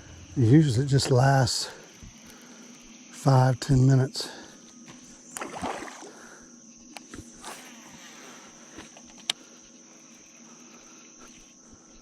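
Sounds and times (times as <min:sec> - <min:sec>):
insects singing: 0:00.0 - 0:12.0.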